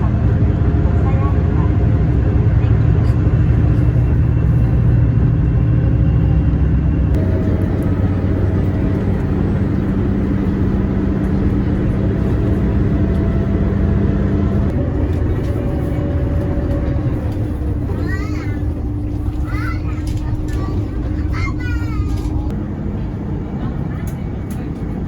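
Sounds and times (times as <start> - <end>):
vehicle engine rumble and hum: 0.0 - 25.0.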